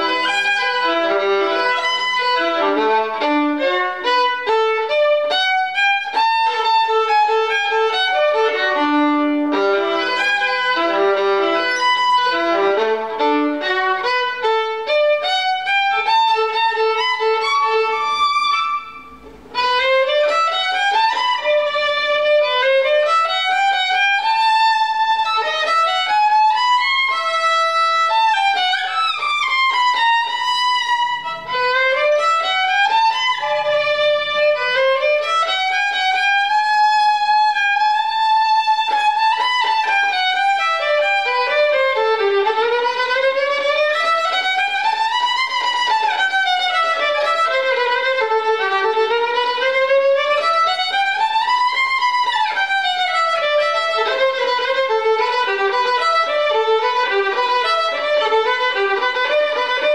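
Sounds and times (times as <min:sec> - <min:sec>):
solo violin: 0:00.0 - 0:59.9.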